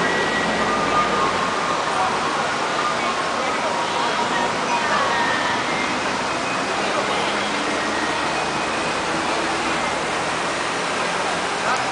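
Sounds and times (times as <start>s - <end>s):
indistinct voices of passers-by: 0.0s - 11.9s
traffic: 0.0s - 11.9s.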